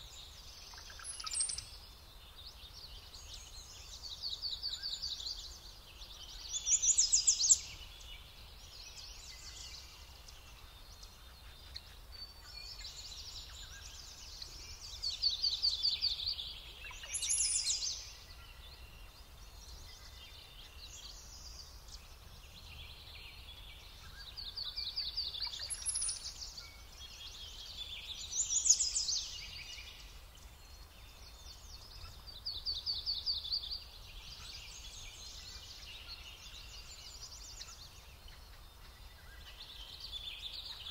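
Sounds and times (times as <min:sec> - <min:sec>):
faint low background noise: 0:00.0 - 0:40.9
songbirds singing: 0:00.0 - 0:40.9.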